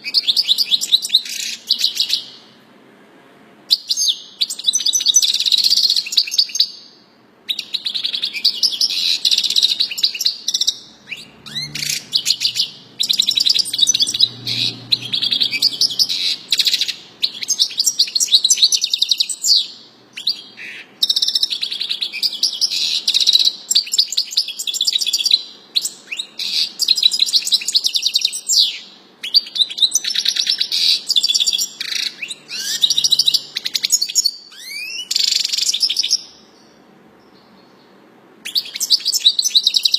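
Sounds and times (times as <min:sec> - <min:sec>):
songbird trilling song: 0:00.0 - 0:02.4, 0:03.7 - 0:39.9.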